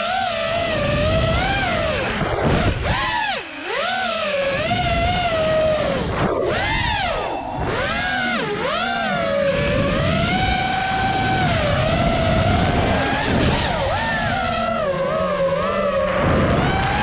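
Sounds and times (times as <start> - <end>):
high-revving vehicle engine: 0.0 - 17.0.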